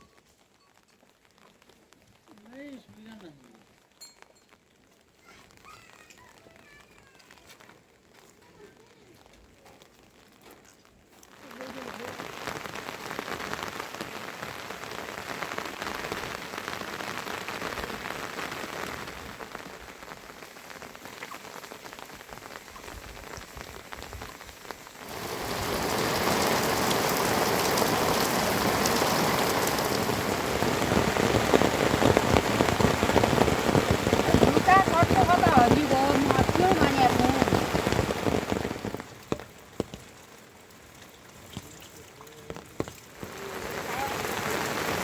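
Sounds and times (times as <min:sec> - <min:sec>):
rain falling steadily: 0:00.0 - 0:45.0.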